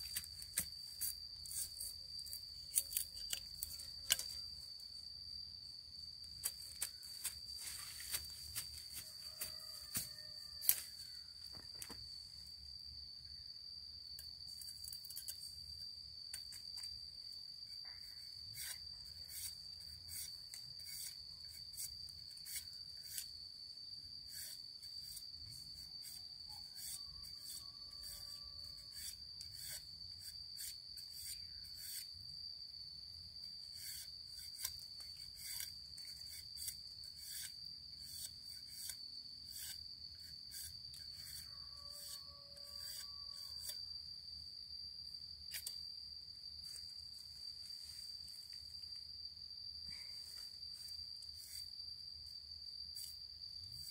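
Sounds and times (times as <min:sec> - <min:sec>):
insect drone: 0:00.0 - 0:53.9.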